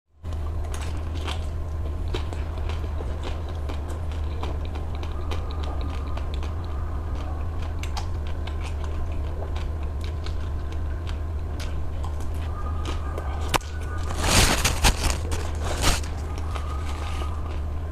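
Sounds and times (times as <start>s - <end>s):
steady low hum: 0.1s - 17.9s.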